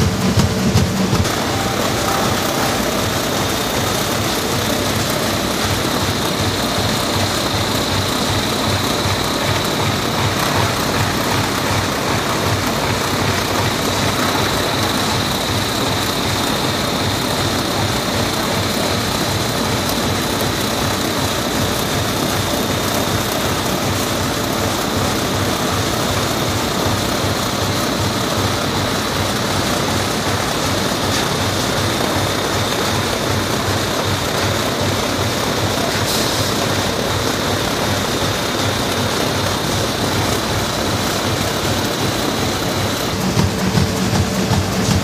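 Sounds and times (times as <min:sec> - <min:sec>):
high machine whine: 0:00.0 - 0:45.0
machine running: 0:00.0 - 0:45.0.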